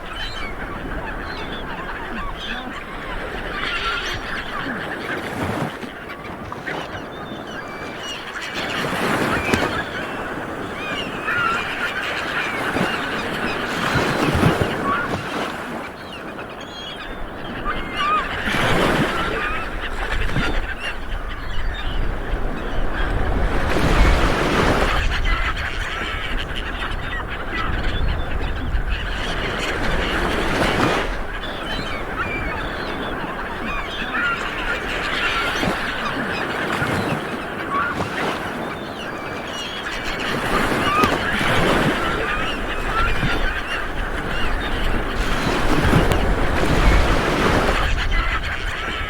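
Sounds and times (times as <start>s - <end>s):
birds calling: 0.0s - 49.0s
waves washing onto beach: 0.0s - 49.0s.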